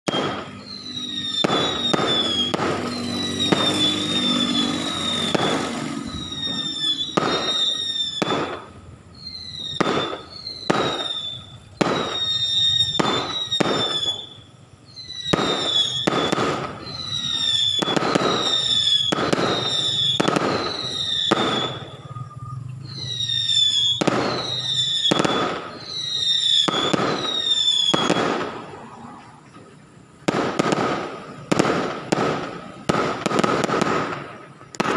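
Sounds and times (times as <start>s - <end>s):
falling firework whistles: 0.0s - 34.9s
firework bangs: 0.1s - 34.9s.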